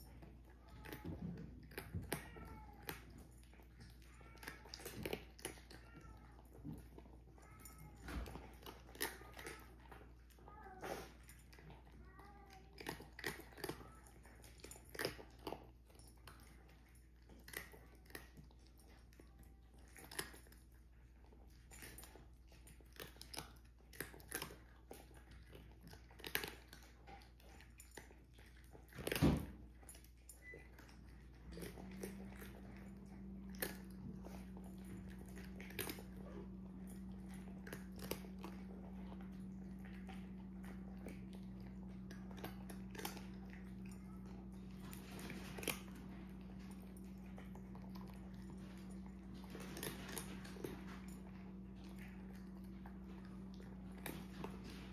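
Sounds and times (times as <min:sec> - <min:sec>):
cats crunching food: 0:00.0 - 0:54.9.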